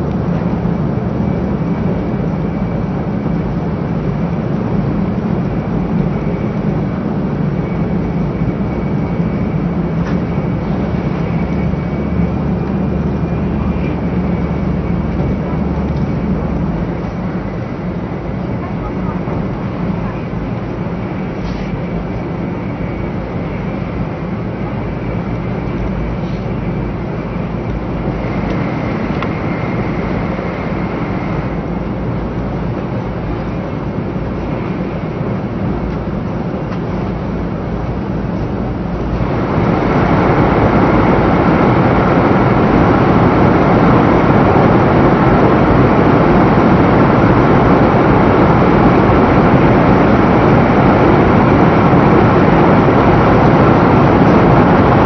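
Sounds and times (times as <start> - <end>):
high-speed train running noise: 0.0 - 55.0.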